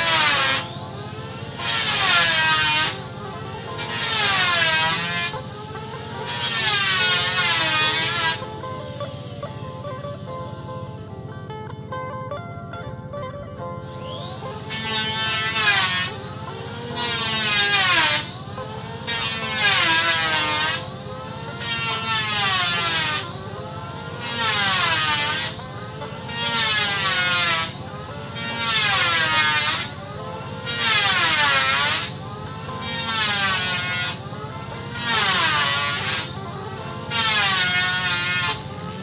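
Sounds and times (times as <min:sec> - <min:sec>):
loud buzzing call: 0:00.0 - 0:39.0.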